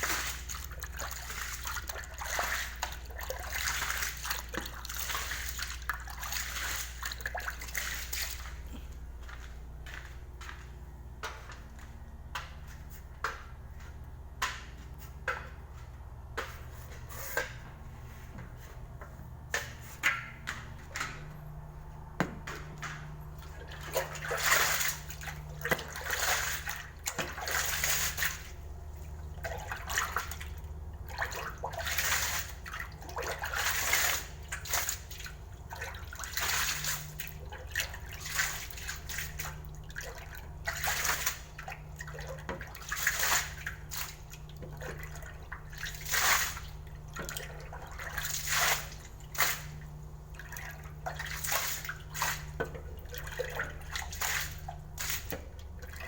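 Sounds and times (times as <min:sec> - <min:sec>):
steady low hum: 0:00.0 - 0:56.0
water sloshing and splashing: 0:00.0 - 0:56.0.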